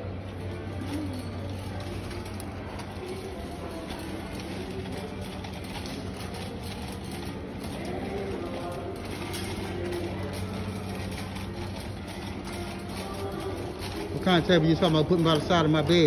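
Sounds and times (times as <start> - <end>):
shopping cart rattling: 0.0 - 16.0.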